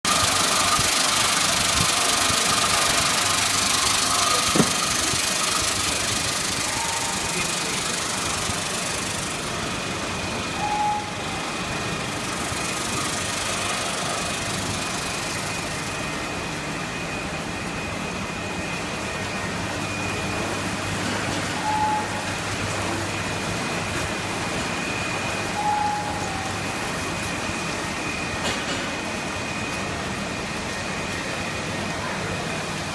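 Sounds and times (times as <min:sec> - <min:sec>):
machinery running: 0:00.0 - 0:32.9
thin high whine: 0:00.1 - 0:32.6.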